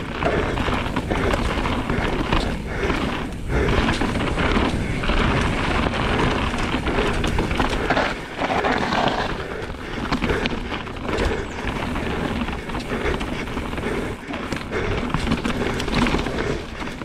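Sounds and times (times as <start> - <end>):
wind noise on microphone: 0.0 - 16.7
bike rattling and knocking: 0.0 - 17.0
tyres rumbling over rough ground: 0.0 - 17.0.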